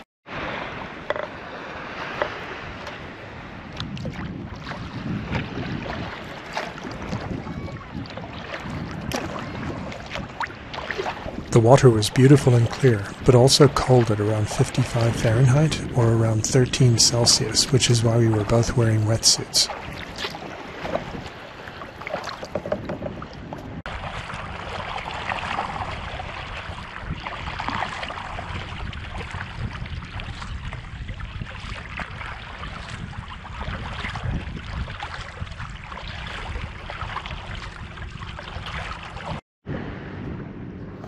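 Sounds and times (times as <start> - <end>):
paddle splashing water: 0.3 - 39.8.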